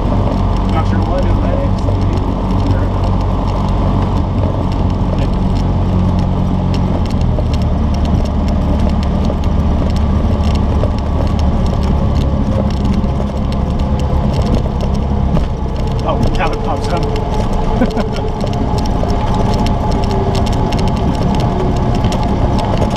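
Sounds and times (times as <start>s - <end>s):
propeller plane engine running: 0.0s - 22.9s.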